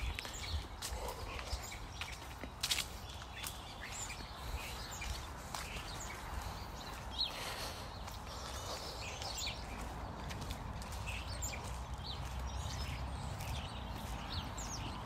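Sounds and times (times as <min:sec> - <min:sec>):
footsteps on paved path: 0:00.0 - 0:15.0
small birds chirping: 0:00.0 - 0:15.0.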